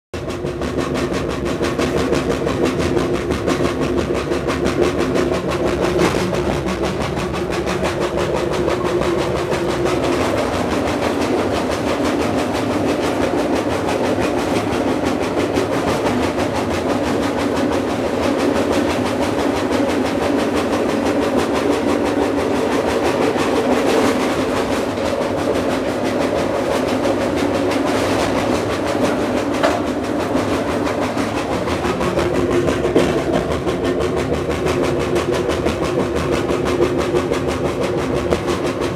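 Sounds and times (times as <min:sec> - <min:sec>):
train car rattling on rails: 0:00.1 - 0:38.9
droning tones: 0:00.2 - 0:38.9.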